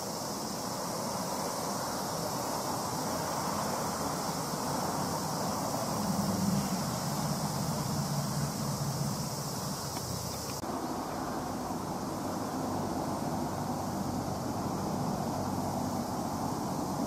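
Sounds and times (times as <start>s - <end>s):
passing vehicles: 0.0s - 17.0s
engine low hum: 1.1s - 17.0s.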